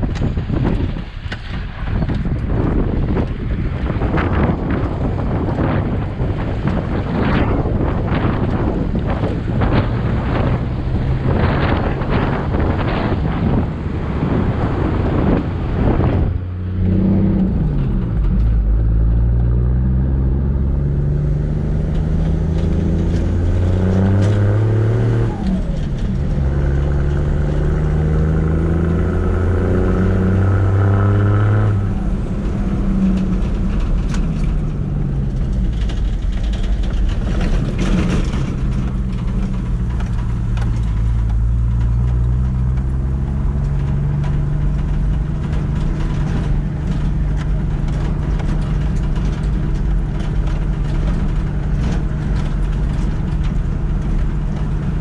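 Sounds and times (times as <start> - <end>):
car engine heard from inside: 0.0 - 55.0
tyres on gravel road: 0.0 - 55.0.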